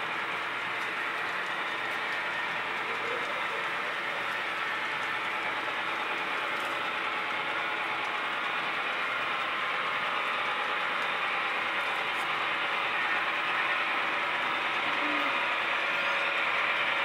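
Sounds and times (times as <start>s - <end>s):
model train wheels clattering: 0.0s - 17.0s.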